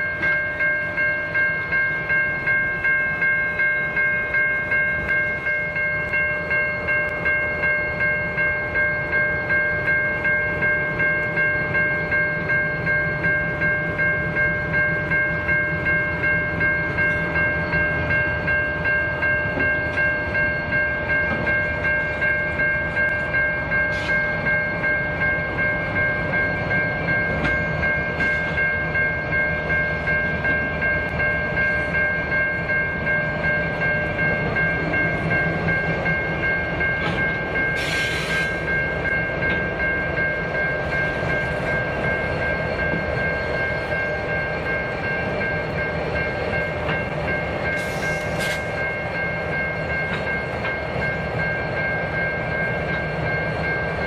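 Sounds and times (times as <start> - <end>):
diesel locomotives running: 0.0 - 54.0
level crossing bell ringing: 0.0 - 54.0.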